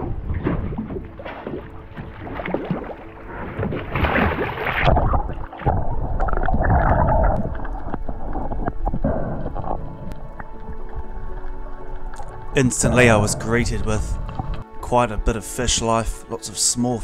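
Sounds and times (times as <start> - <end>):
water splashing: 0.0 - 14.8
muffled underwater rushing and bubbling: 0.0 - 16.1.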